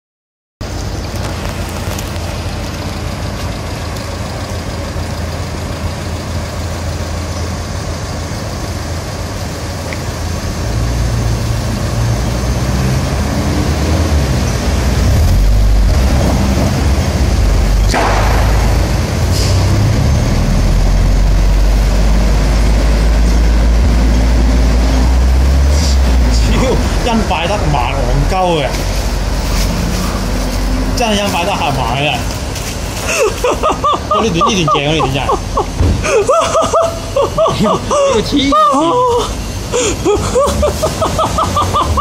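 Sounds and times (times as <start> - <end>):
vehicle engine rumbling: 0.6 - 42.0.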